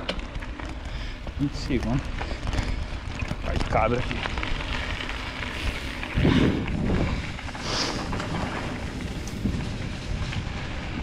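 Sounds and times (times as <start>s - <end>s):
bike rolling on dirt trail: 0.0s - 11.0s
wind buffeting microphone: 0.4s - 11.0s.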